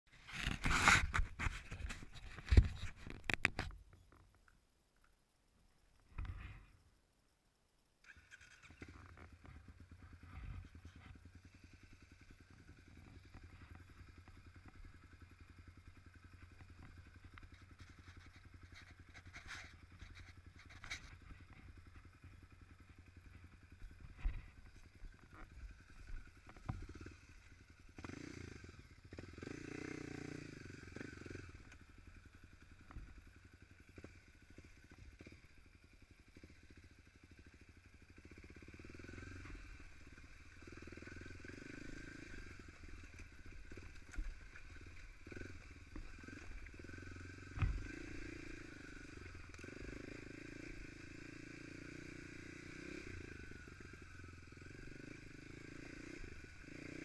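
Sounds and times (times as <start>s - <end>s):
dirt bike engine idling: 8.0s - 57.0s.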